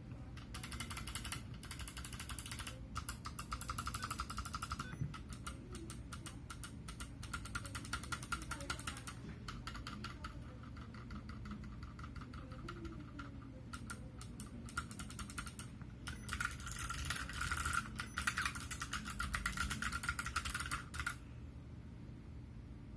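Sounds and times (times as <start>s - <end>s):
mechanical keyboard typing: 0.2s - 21.2s.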